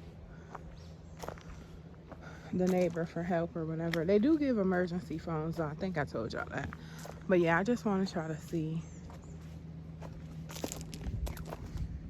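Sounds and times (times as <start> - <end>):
soft footsteps on ground: 0.0 - 12.0.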